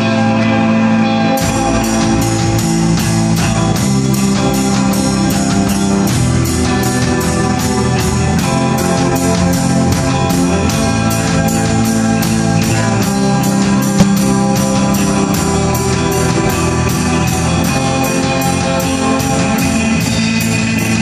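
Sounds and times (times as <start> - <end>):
electric bass: 0.0 - 21.0
electric guitar chords: 0.0 - 21.0
drum kit beat: 1.4 - 20.8.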